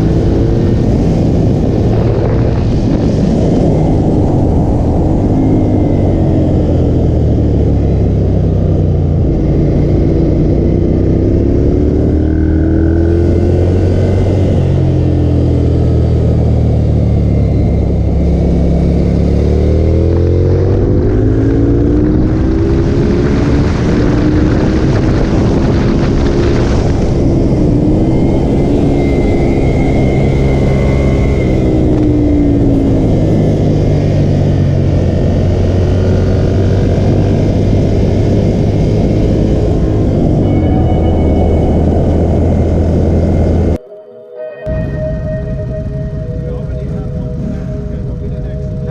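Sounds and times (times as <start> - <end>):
motorcycle engine at speed: 0.0 - 43.8
heavy wind rush: 0.0 - 48.9.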